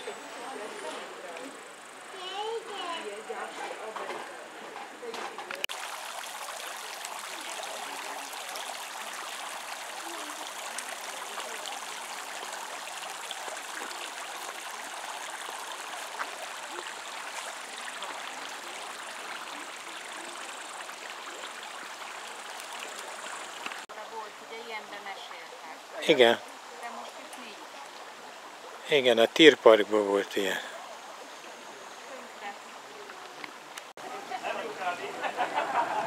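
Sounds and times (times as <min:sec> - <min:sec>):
water jets splashing into pool: 0:02.2 - 0:36.0.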